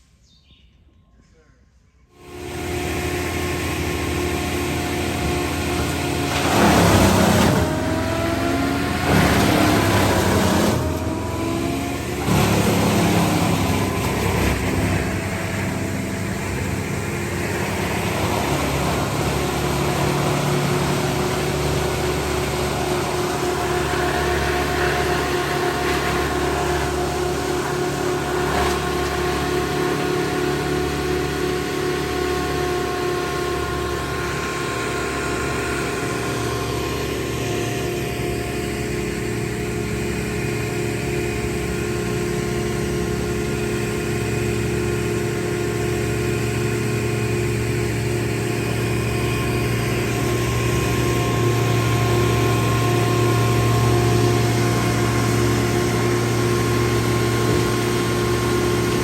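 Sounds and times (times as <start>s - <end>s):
power equipment engine running: 2.2s - 59.0s.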